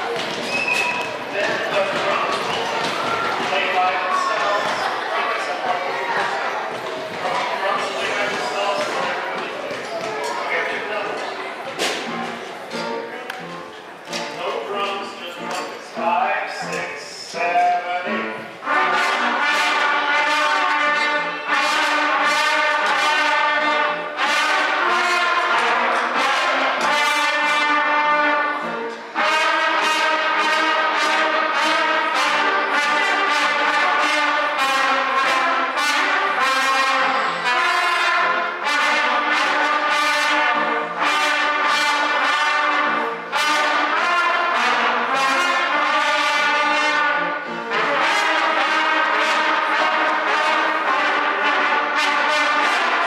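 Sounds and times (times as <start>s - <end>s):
trumpets playing a tune: 10.2s - 53.0s.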